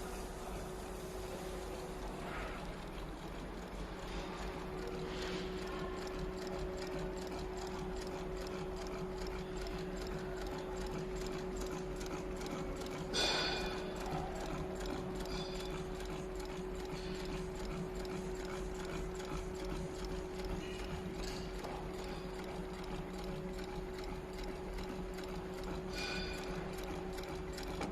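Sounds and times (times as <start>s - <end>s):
industrial sewing machine running: 0.0s - 27.9s.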